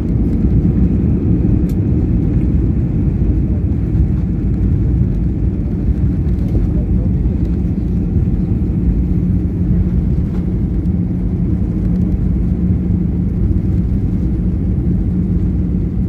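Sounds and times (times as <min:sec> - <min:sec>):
engines and wheels rumbling: 0:00.0 - 0:16.0
steady hum: 0:00.0 - 0:16.0.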